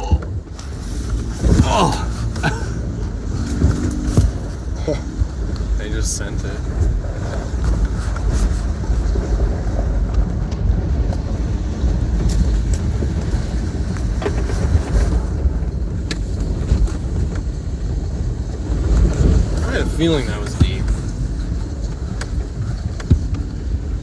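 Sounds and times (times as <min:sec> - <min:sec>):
knocks and rattles: 0:00.0 - 0:24.0
pickup engine rumble: 0:00.0 - 0:24.0.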